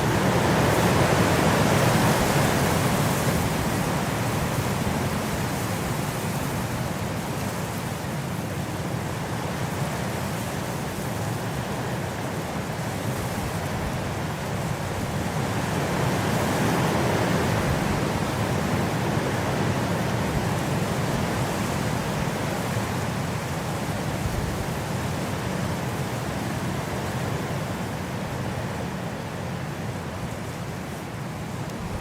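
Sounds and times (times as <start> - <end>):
gusting wind: 0.0 - 32.0.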